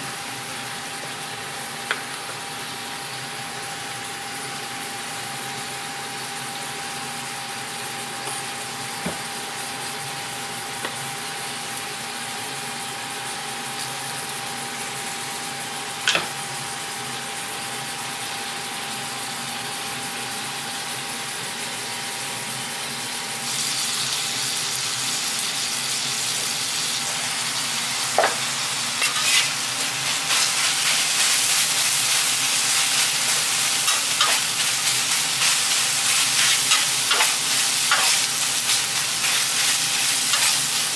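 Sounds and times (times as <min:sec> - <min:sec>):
meat and vegetables sizzling: 0:00.0 - 0:40.9
steady kitchen hiss: 0:00.0 - 0:40.9.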